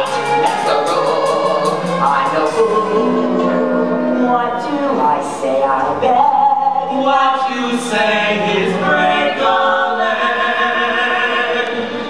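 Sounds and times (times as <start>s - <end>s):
male voices singing in harmony: 0.0s - 4.3s, 6.0s - 12.0s.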